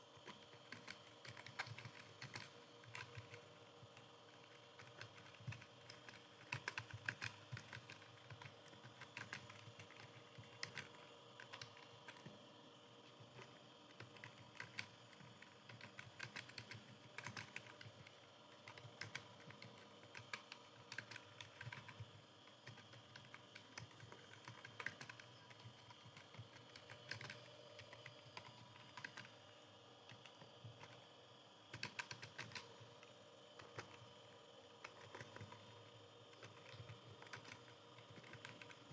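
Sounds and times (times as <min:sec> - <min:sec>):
keyboard typing: 0:00.0 - 0:12.5, 0:13.1 - 0:31.0, 0:31.7 - 0:34.2, 0:34.8 - 0:38.9
faint steady hum: 0:00.0 - 0:38.9.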